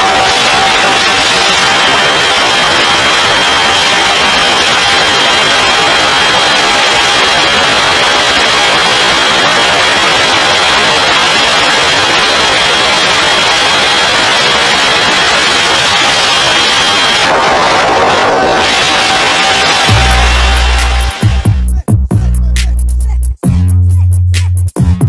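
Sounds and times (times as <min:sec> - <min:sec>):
high-pitched whine: 0:00.0 - 0:21.7.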